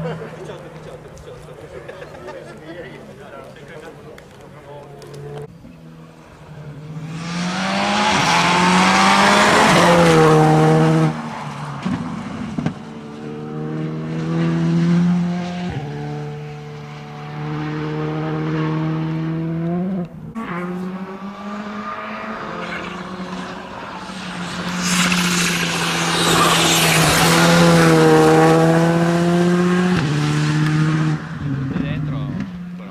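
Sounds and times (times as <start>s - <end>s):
rally car engine revving: 4.8s - 32.9s.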